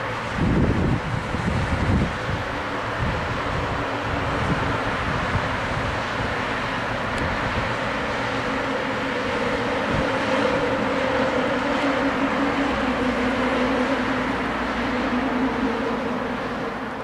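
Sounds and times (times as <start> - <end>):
train rolling past: 0.0 - 17.0.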